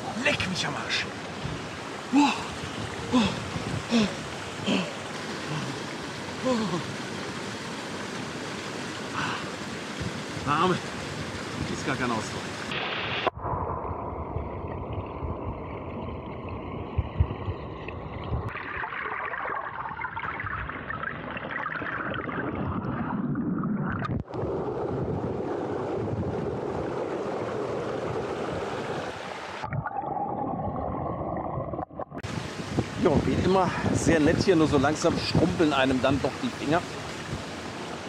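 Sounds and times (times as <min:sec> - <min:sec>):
water rushing and gurgling: 0:00.0 - 0:38.0.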